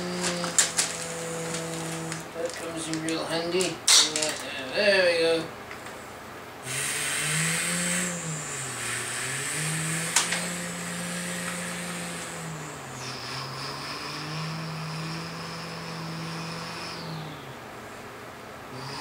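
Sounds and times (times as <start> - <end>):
man imitating engine drone: 0.0 - 5.5, 6.6 - 17.7, 18.7 - 19.0.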